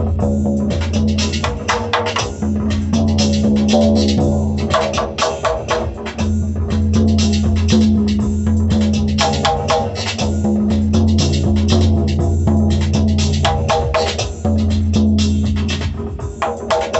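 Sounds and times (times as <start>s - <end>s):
steady low drone: 0.0s - 16.4s.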